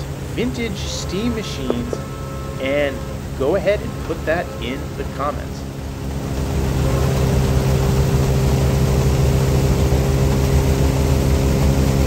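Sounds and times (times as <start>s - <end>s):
threshing machine running: 0.0s - 12.0s.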